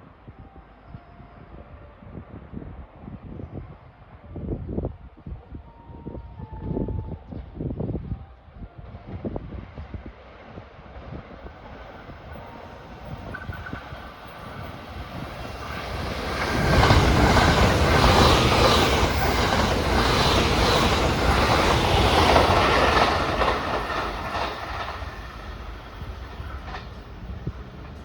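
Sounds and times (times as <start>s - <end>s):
train passing on rails: 5.2s - 28.0s.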